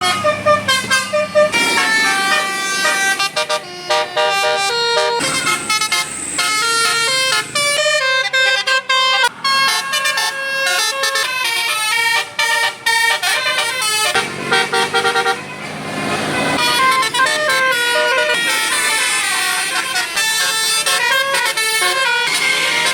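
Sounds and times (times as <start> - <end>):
multi-tone bus horn melody: 0.0 - 22.9.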